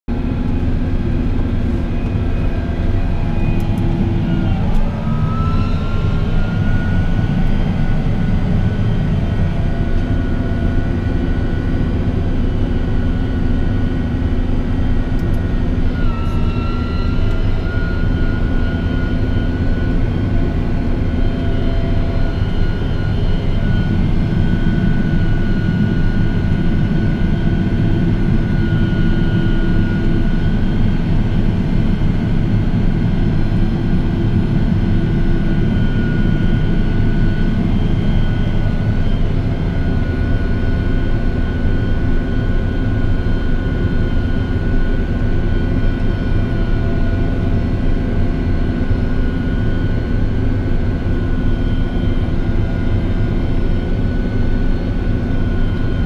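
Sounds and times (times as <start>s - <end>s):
high whine: 0.1s - 56.0s.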